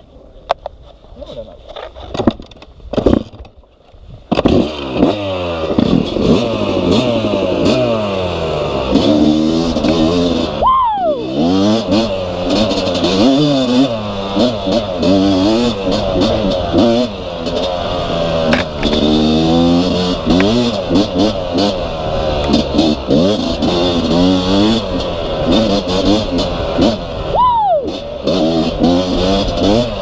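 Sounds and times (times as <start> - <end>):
dirt bike engine revving: 4.3 - 30.0.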